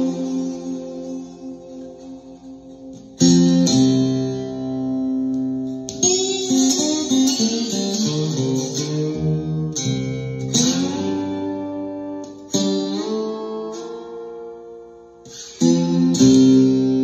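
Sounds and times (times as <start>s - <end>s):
acoustic guitar chords: 0.0s - 17.0s
slide guitar notes gliding: 0.0s - 17.0s.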